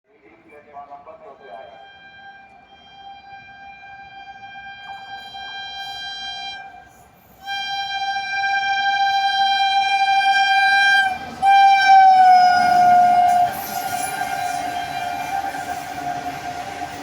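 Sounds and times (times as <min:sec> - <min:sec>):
train wagons rumbling past: 0:00.2 - 0:17.0
train horn blasts: 0:01.4 - 0:17.0.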